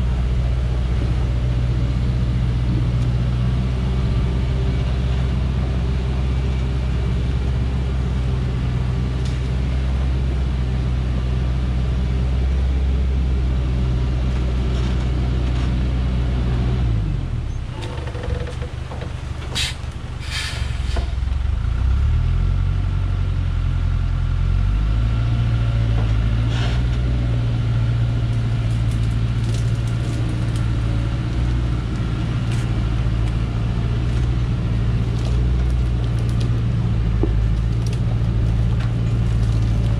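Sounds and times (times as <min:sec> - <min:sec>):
diesel truck engine labouring: 0:00.0 - 0:39.9.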